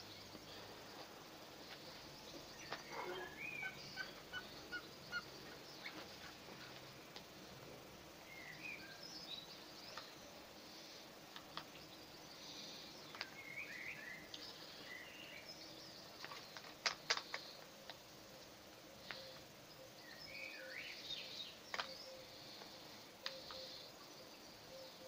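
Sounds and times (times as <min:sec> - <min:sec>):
birds chirping: 0:00.0 - 0:07.0, 0:08.2 - 0:17.8, 0:19.0 - 0:25.0.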